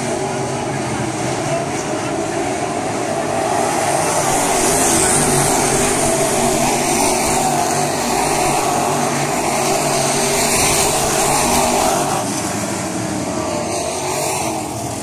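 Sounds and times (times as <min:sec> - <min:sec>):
race car engines droning: 0:00.0 - 0:15.0
race car passing close: 0:00.0 - 0:15.0.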